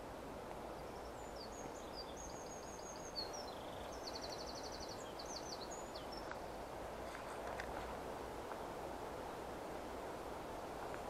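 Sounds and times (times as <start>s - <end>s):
outdoor hiss: 0.0s - 11.0s
songbird singing: 0.0s - 11.0s.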